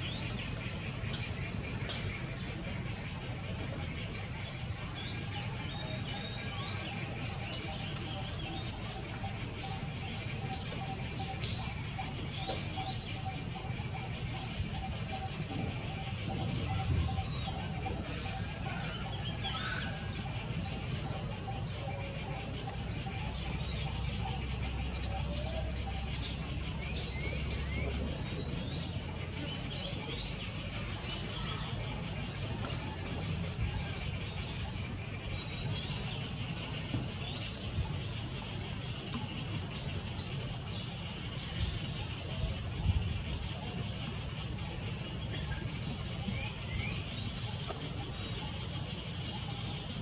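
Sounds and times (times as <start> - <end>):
low background rumble: 0.0 - 50.0
small birds chirping: 0.0 - 50.0.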